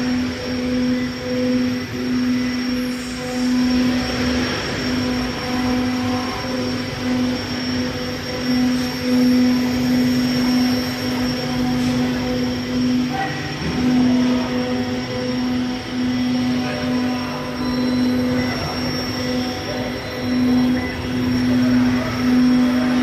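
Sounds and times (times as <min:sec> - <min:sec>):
cnc router motor hum: 0:00.0 - 0:23.0
machine working noise: 0:00.0 - 0:23.0.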